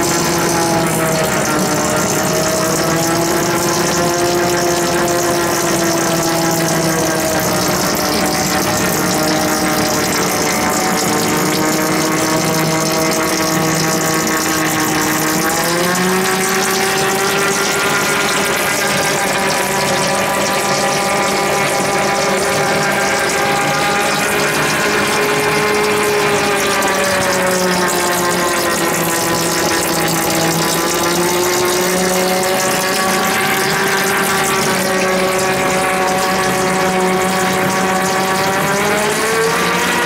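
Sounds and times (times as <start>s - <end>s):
lathe gear whine: 0.0s - 40.0s
oil splashing on gears: 0.0s - 40.0s.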